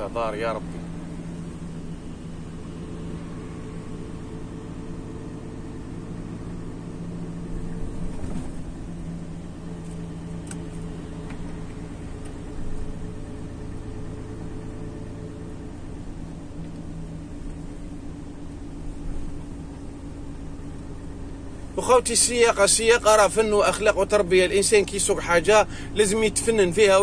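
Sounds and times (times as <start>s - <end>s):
diesel truck engine droning: 0.0s - 27.0s.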